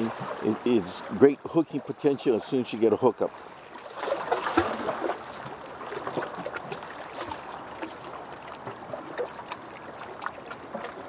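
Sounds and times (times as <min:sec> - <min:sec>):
sea water sloshing around rocks: 0:00.0 - 0:11.0
small water splashes: 0:00.0 - 0:11.0.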